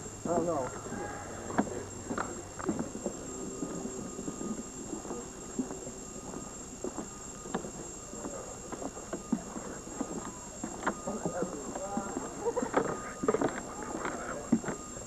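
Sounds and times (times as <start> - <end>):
footsteps on wooden boardwalk: 0.3 - 15.0.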